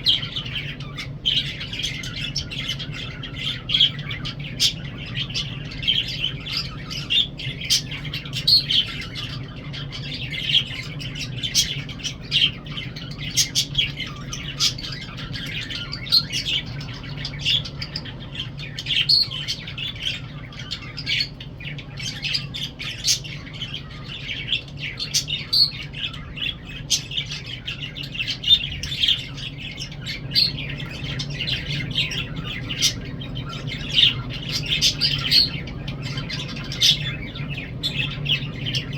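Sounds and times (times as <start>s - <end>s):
lovebirds chirping and squeaking: 0.0s - 38.9s
low steady hum: 0.0s - 38.9s.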